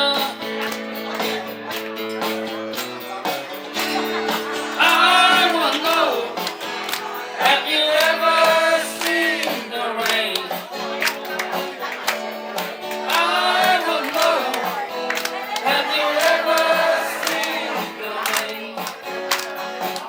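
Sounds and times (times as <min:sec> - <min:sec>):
person singing: 0:00.0 - 0:02.6, 0:04.0 - 0:20.0
guitar accompaniment: 0:00.0 - 0:20.0
steady drum beat: 0:02.3 - 0:19.9.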